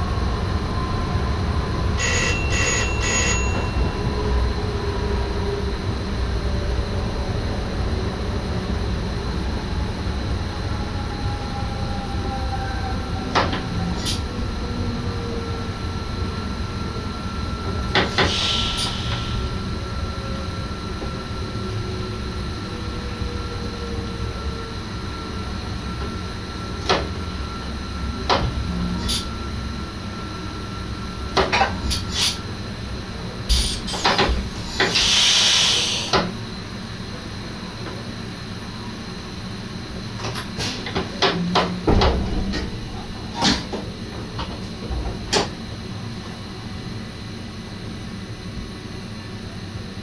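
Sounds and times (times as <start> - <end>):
train low rumble: 0.0 - 50.0.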